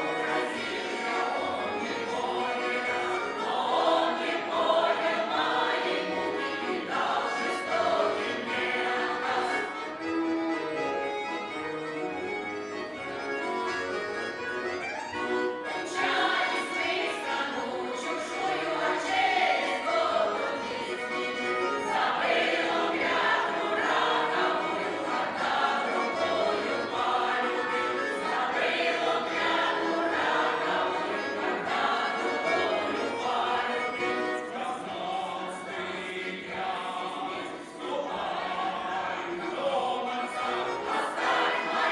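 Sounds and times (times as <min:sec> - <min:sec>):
choir singing: 0:00.0 - 0:10.2, 0:15.5 - 0:41.9.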